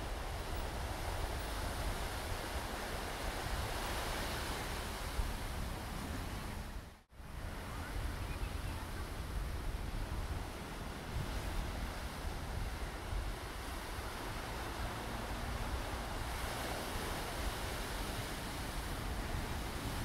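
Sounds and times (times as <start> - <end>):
surf washing against rocks: 0.0 - 6.6, 7.6 - 20.0
wind rumbling on microphone: 0.0 - 20.0.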